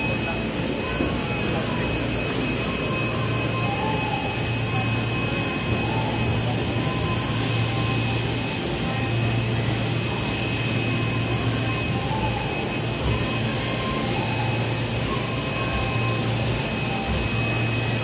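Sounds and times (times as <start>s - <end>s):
faint high whine: 0.0s - 18.0s
low machinery hum: 0.0s - 18.0s
printing machinery rush: 0.0s - 18.0s.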